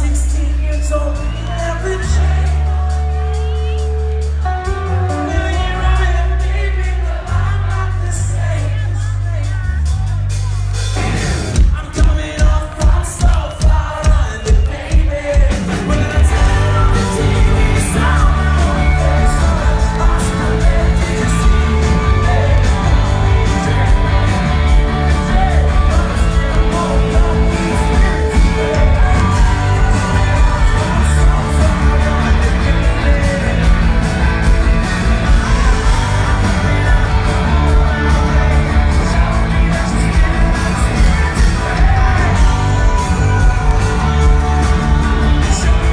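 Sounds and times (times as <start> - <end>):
lead singer singing: 0.0 - 45.9
live rock band playing: 0.0 - 45.9.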